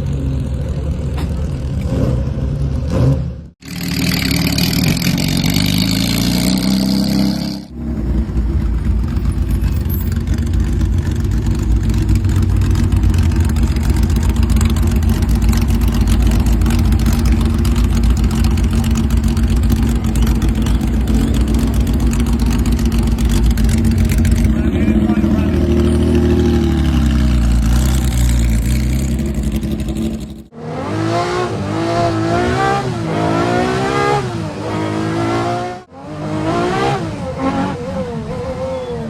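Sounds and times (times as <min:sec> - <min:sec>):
car engine accelerating: 0:00.0 - 0:39.0
engine and road drone: 0:00.0 - 0:39.0.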